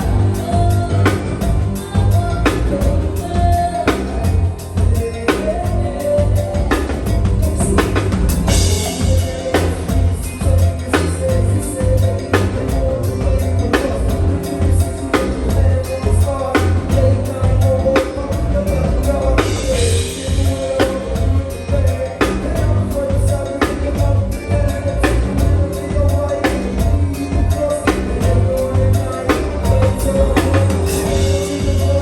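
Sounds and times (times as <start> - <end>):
drum kit beat: 0.0 - 32.0
live band music: 0.0 - 32.0.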